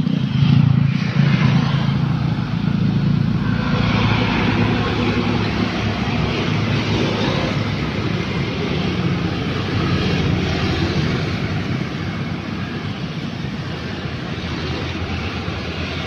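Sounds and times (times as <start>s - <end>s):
passing road traffic: 0.0s - 16.0s.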